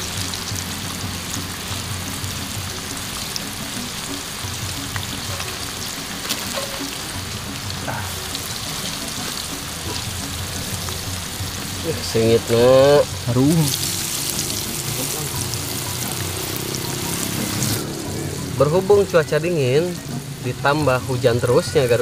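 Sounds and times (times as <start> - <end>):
oil sizzling and popping: 0.0 - 22.0.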